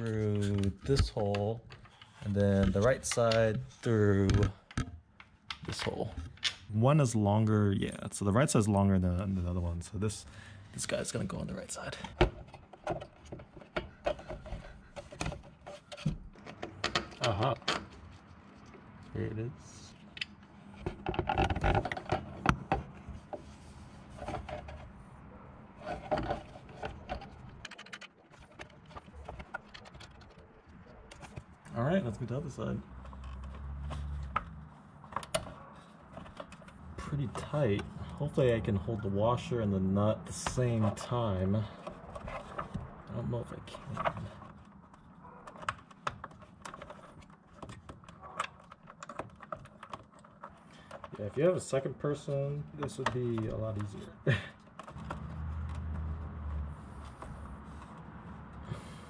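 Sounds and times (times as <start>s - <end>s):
plastic parts rustling and scraping: 0.0s - 6.7s, 8.1s - 59.0s.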